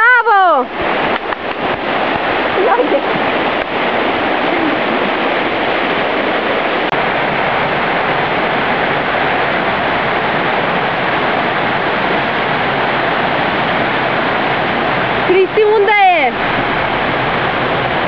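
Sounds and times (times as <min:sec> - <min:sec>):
whitewater river rushing: 0:00.0 - 0:18.0.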